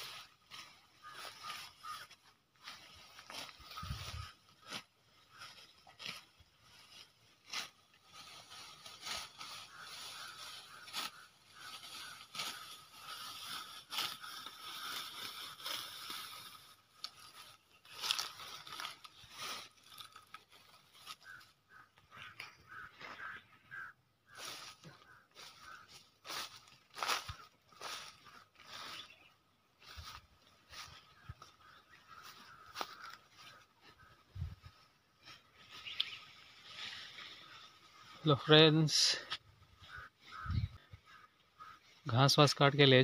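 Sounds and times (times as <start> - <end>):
grass crunching and rustling: 0.0 - 43.0.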